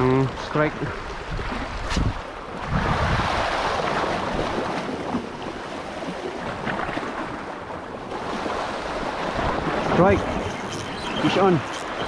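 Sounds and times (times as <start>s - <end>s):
sea water washing: 0.0s - 12.0s
wind buffeting microphone: 0.7s - 12.0s.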